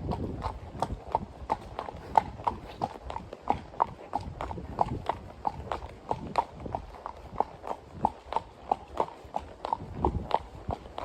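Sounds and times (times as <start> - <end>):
horse hooves clip-clopping: 0.0 - 11.0.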